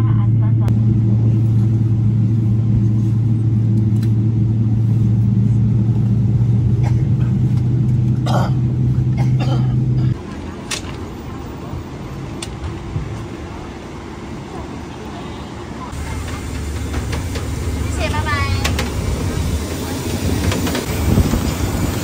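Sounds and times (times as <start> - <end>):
low mechanical engine hum: 0.0 - 22.0.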